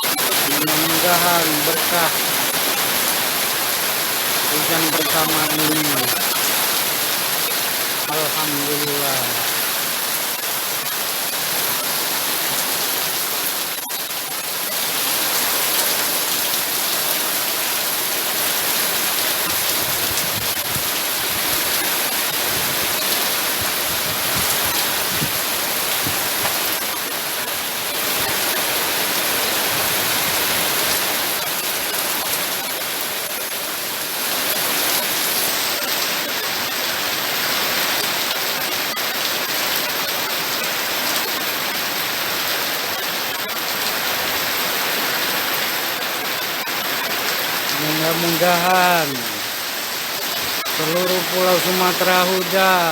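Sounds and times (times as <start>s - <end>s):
steady rain pouring: 0.0s - 52.9s.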